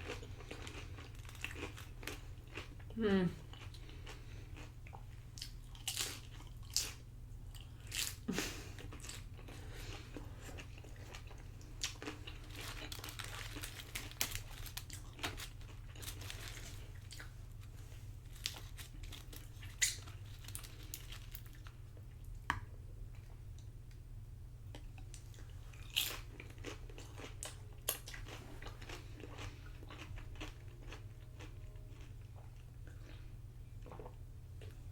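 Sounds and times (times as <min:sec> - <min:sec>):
person chewing crunchy chips: 0:00.0 - 0:22.2, 0:24.7 - 0:34.8.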